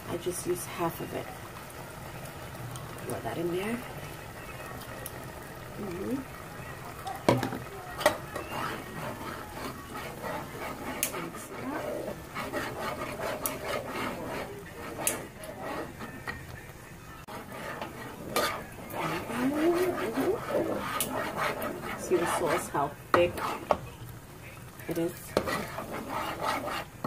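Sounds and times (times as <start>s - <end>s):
spoon stirring thick beans: 0.7s - 27.0s.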